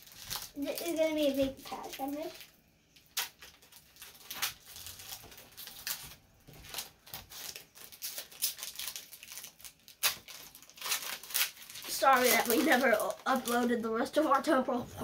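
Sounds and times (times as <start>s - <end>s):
foil wrappers and cards crinkling: 0.0s - 14.6s.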